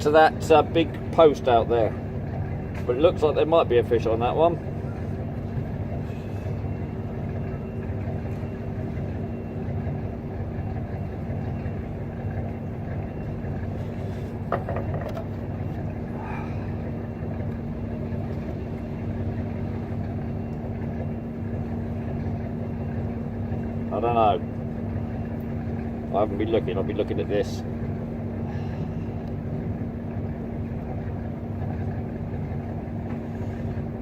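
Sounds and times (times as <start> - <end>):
steady low engine hum: 0.0 - 34.0.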